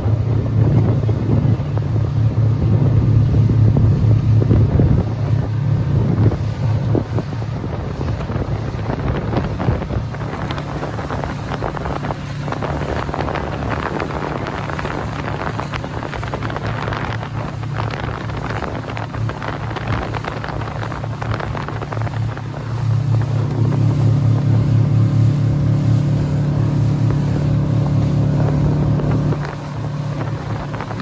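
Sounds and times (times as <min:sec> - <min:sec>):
speedboat engine drone: 0:00.0 - 0:31.0
water rushing and splashing: 0:00.0 - 0:31.0
wind buffeting microphone: 0:00.0 - 0:31.0.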